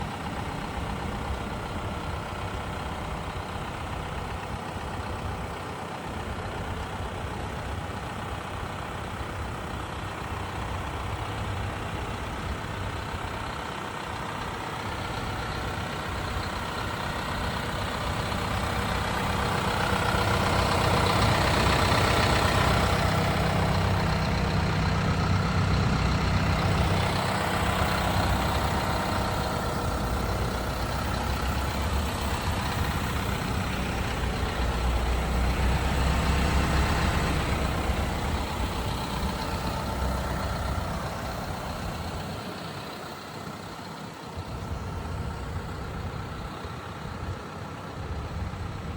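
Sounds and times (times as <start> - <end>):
truck engine idling: 0.0 - 48.9.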